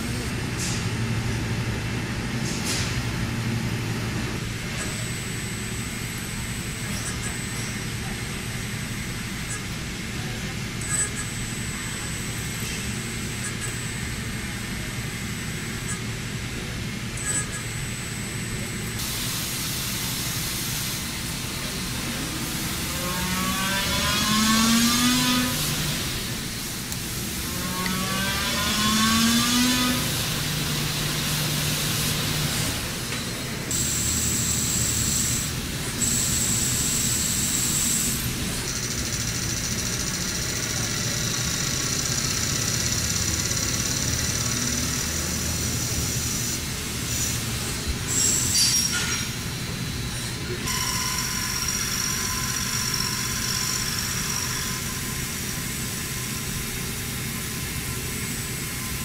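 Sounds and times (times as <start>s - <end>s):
machine running: 0.0s - 59.0s.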